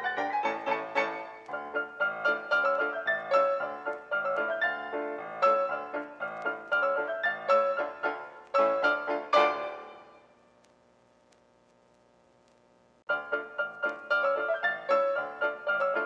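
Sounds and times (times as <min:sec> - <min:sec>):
piano music: 0:00.0 - 0:10.2, 0:13.1 - 0:16.0.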